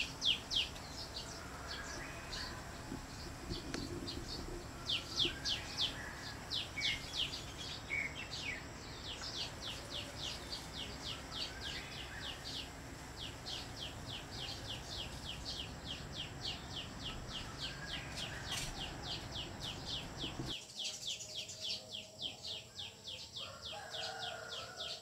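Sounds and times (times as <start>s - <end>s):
low background noise: 0.0s - 25.0s.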